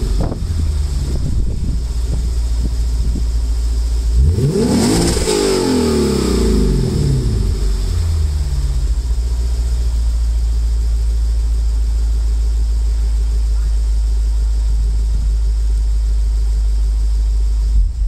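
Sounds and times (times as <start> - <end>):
car engine revving then idling: 0.0 - 18.0.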